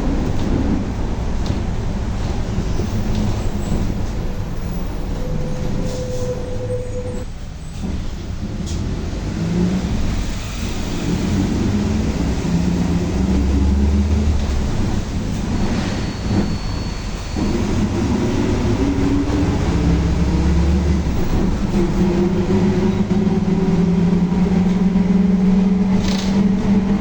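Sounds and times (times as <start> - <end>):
bus drivetrain rumble: 0.0 - 27.0.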